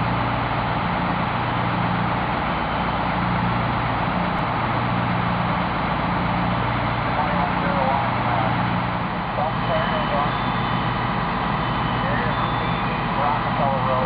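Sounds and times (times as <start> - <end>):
fire engine running: 0.0 - 14.0.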